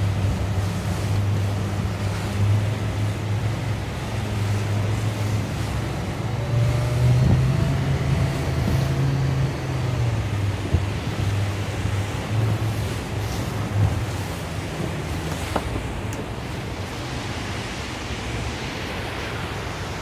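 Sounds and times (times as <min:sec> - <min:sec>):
boat motor humming: 0:00.0 - 0:20.0
churning white water rushing: 0:00.0 - 0:20.0.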